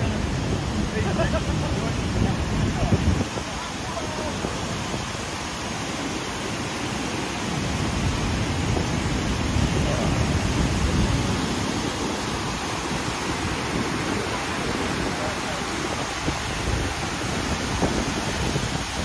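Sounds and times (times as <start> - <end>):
floodwater roaring over a weir: 0.0 - 19.0.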